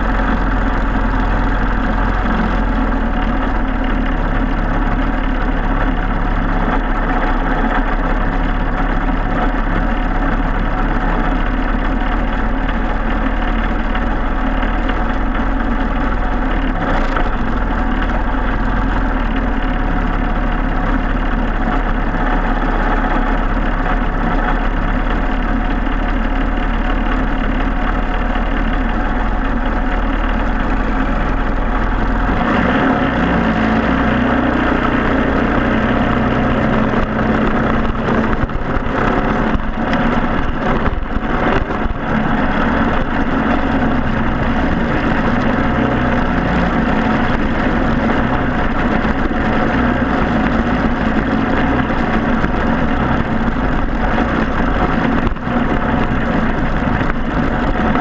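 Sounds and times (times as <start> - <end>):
kart engine running: 0.0 - 58.0.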